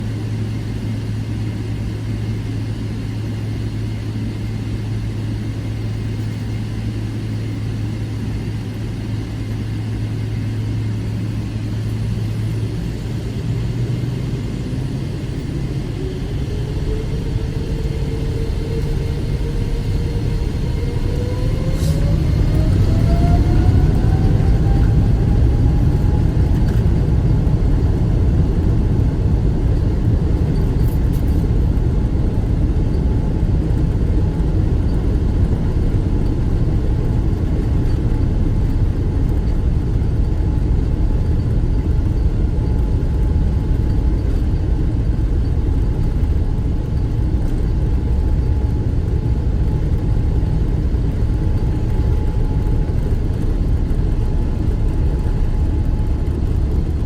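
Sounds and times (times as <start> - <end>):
jet engine whine: 0.0 - 57.0
jet engines rumbling: 0.0 - 57.0.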